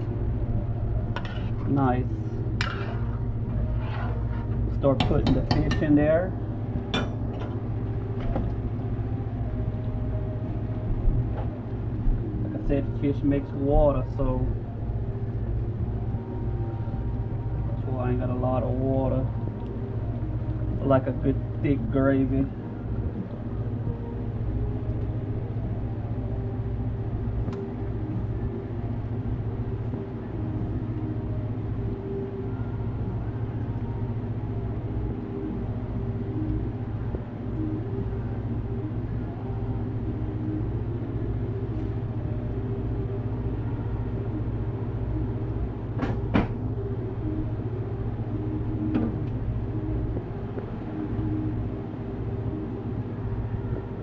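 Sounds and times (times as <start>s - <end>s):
low rumble of fire: 0.0s - 54.0s.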